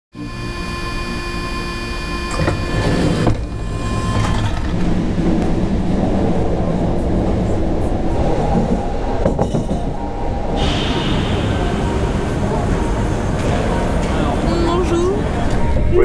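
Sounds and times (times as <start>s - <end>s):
train wheels rumbling on rails: 2.5s - 16.0s.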